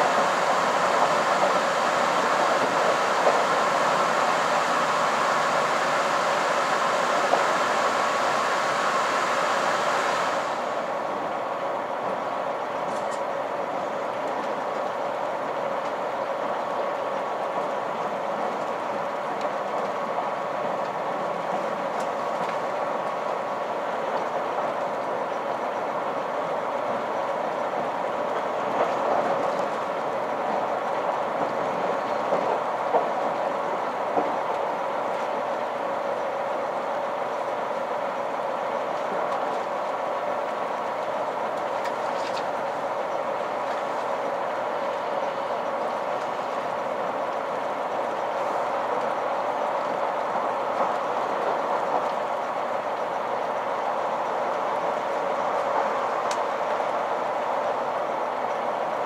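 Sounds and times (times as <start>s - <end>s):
train wheels droning on rails: 0.0s - 59.0s.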